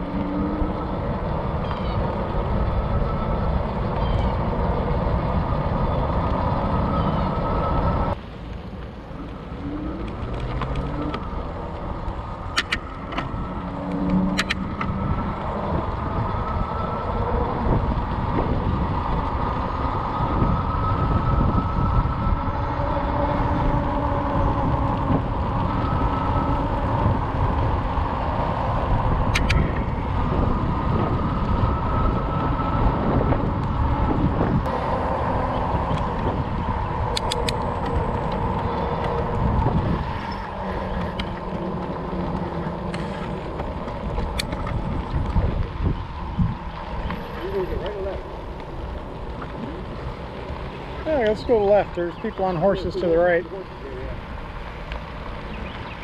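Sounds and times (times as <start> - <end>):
tyre noise on asphalt: 0.0 - 56.0
wind rushing over microphone: 9.0 - 56.0.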